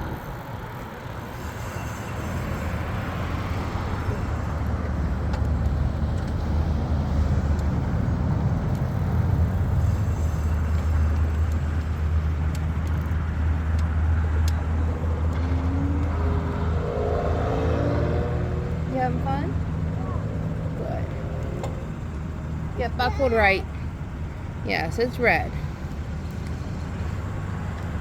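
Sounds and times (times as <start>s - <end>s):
wind and tyre noise: 0.0s - 28.0s.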